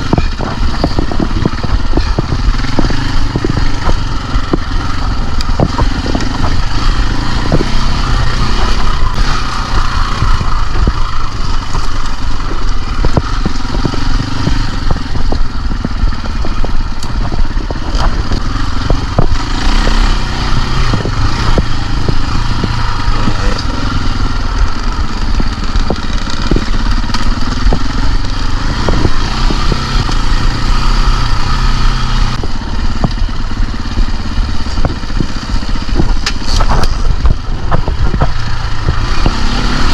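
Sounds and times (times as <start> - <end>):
dirt bike engine running: 0.0 - 39.9
sharp knocks and clatter: 0.0 - 39.9.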